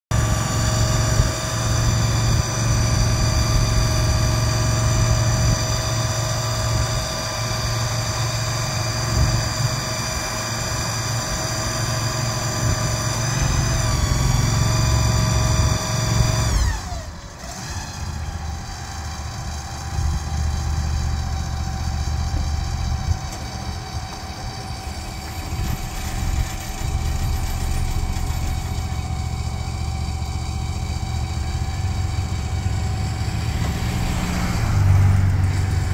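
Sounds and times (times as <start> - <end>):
engine whining: 0.1 - 35.9.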